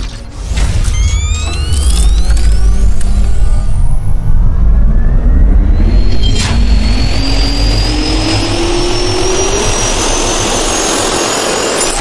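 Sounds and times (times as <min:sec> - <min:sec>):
jet turbine roar with rising whine: 0:01.0 - 0:12.0.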